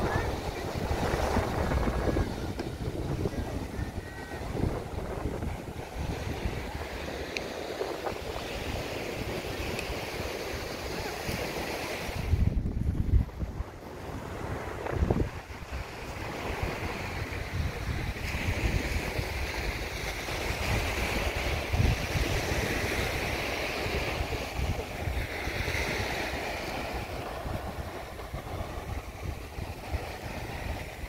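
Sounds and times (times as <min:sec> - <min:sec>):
small waves breaking on beach: 0:00.0 - 0:31.0
wind buffeting microphone: 0:00.0 - 0:31.0.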